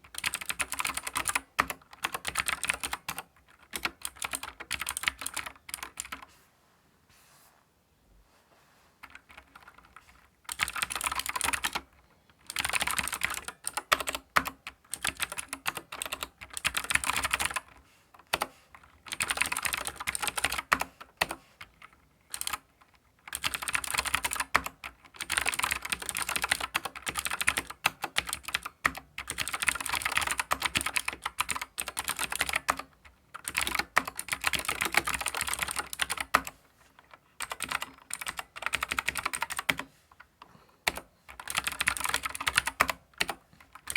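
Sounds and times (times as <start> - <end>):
mechanical keyboard typing: 0.0 - 6.2, 9.0 - 39.9, 40.8 - 43.9.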